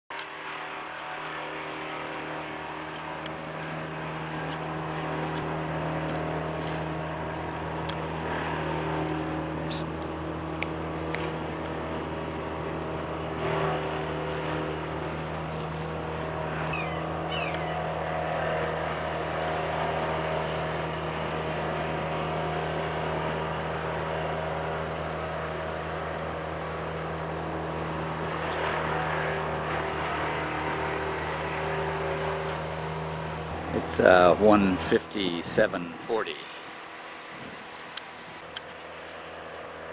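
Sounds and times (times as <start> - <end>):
steady mechanical hum: 0.1 - 39.9.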